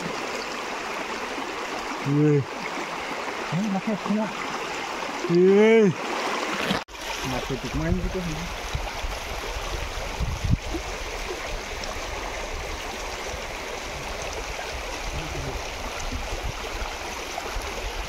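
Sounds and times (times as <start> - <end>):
stream running over stones: 0.0 - 18.0.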